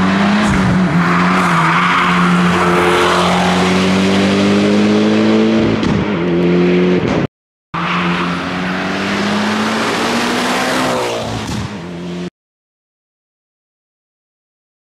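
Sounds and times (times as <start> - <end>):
car engine at full throttle: 0.0 - 12.3.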